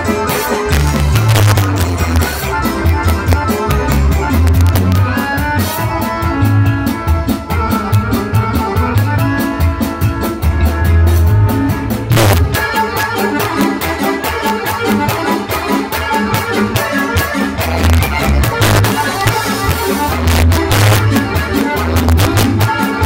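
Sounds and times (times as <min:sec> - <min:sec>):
accordion melody: 0:00.0 - 0:23.0
bass line: 0:00.0 - 0:23.0
drum kit beat: 0:00.0 - 0:23.0.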